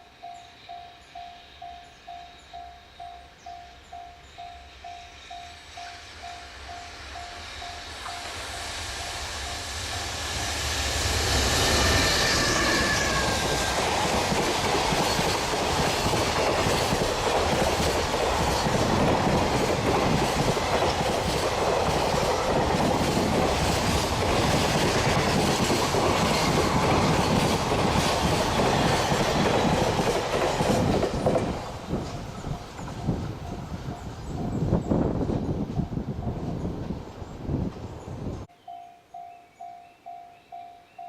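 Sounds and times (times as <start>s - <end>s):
freight train passing: 0.0s - 41.0s.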